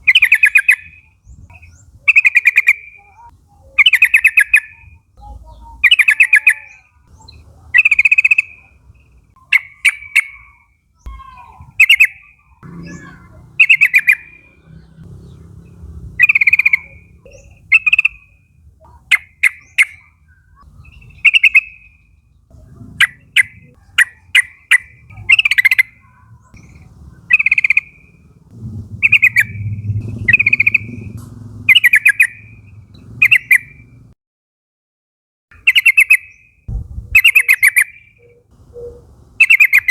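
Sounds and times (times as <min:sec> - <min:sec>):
bird calling bubbly phrases: 0:00.0 - 0:34.1, 0:35.6 - 0:36.4, 0:37.0 - 0:39.9.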